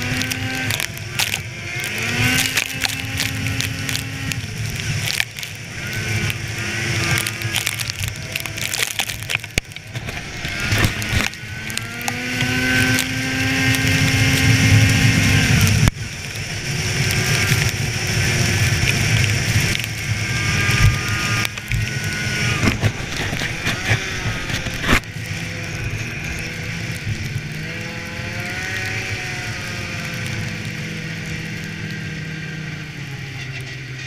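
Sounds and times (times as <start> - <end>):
snowmobile engine running: 0.0 - 34.0.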